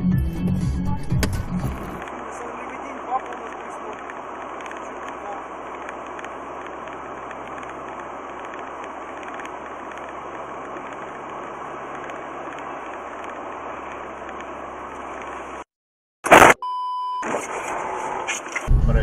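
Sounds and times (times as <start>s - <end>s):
car road and engine noise: 0.0s - 15.7s, 17.2s - 19.0s.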